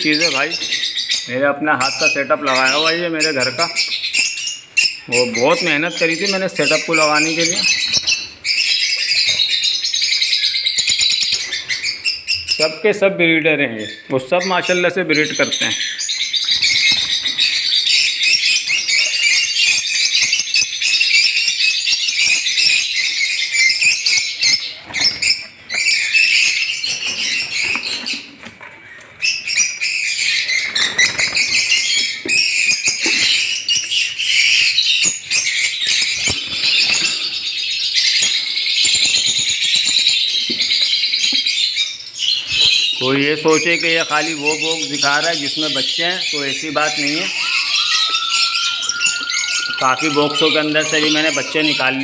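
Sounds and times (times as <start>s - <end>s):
lovebirds chattering: 0.0s - 52.0s.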